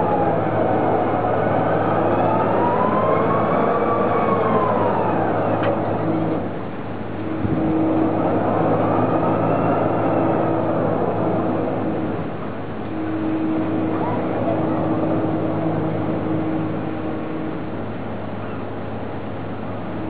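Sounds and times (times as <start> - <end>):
whine rising and falling in pitch: 0.0 - 6.6, 7.2 - 17.7
fairground ride drive hum: 0.0 - 20.0.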